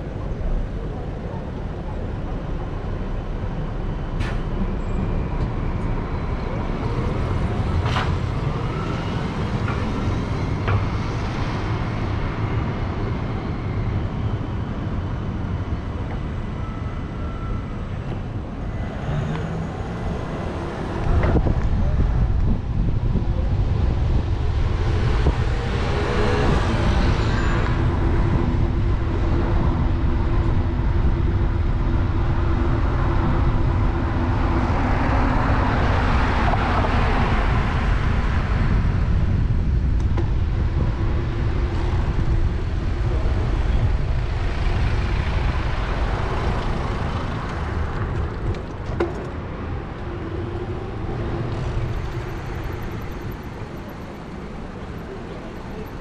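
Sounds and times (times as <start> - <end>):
car engines humming: 0.0 - 56.0
low traffic rumble: 0.0 - 56.0
vehicles passing: 0.0 - 56.0.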